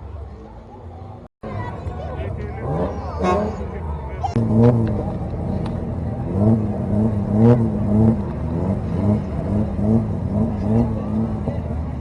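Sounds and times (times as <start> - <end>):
car engine revving: 1.4 - 12.0.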